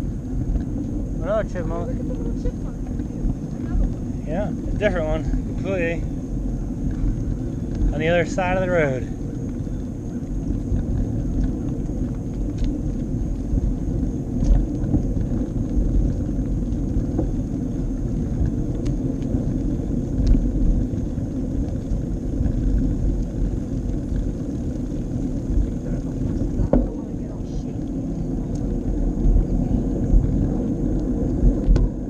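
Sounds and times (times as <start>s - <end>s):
bicycle riding rumble: 0.0s - 32.0s.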